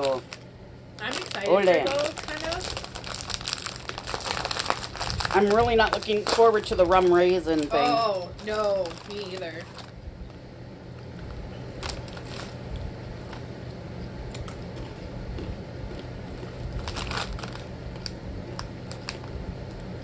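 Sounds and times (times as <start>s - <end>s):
chips being crunched: 0.0s - 10.0s, 11.0s - 13.5s, 14.3s - 19.9s
snack bag crinkling: 0.0s - 10.0s, 10.9s - 13.6s, 14.3s - 20.0s
steady low hum: 0.0s - 20.0s.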